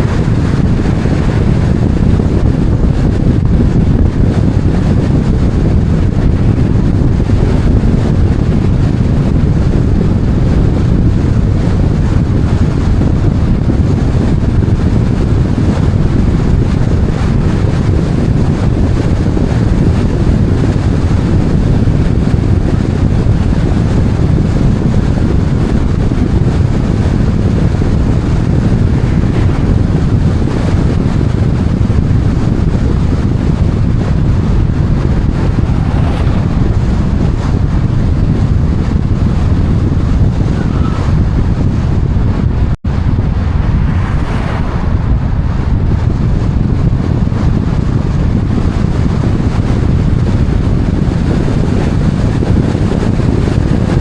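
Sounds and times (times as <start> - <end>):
low rumbling wind on microphone: 0.0 - 54.0.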